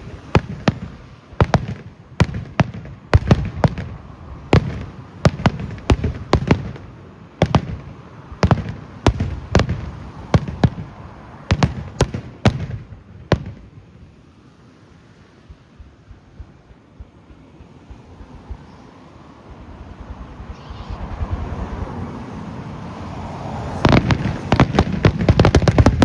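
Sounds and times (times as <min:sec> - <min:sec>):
fireworks bangs: 0:00.0 - 0:14.2, 0:15.5 - 0:26.0.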